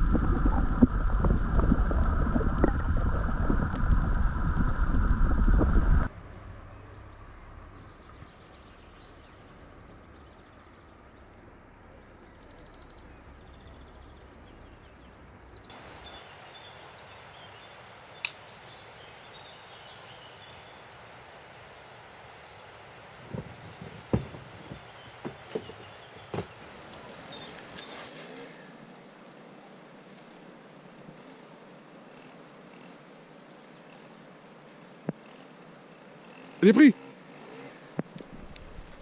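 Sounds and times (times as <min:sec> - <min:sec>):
soft steady hiss: 0:00.0 - 0:39.0.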